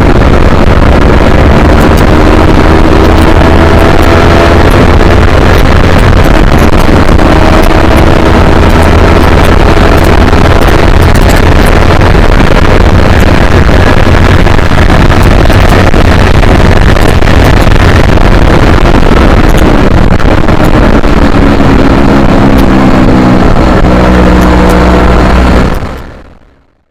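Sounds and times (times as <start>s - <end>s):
motorcycle engine: 0.0s - 26.9s
wind rumble on microphone: 0.0s - 26.9s.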